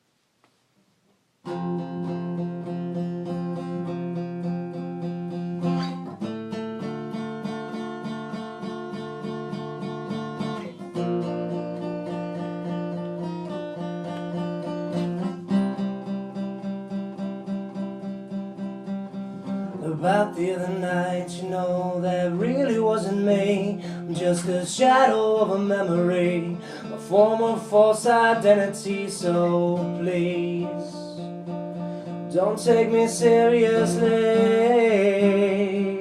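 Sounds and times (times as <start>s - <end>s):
acoustic guitar strumming chords: 1.4s - 36.0s.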